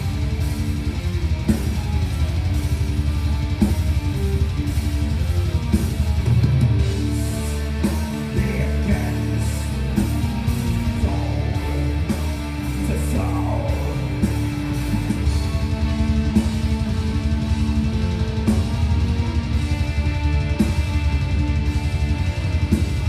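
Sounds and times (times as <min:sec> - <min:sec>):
bass and drums: 0:00.0 - 0:23.0
distorted electric guitars: 0:00.0 - 0:23.0
metal band playing live: 0:00.0 - 0:23.0.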